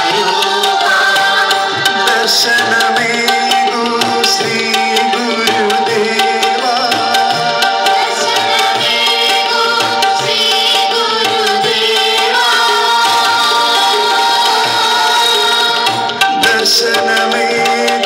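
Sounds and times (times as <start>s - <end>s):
group singing over loudspeakers: 0.0s - 18.0s
rhythmic drums: 0.0s - 18.0s.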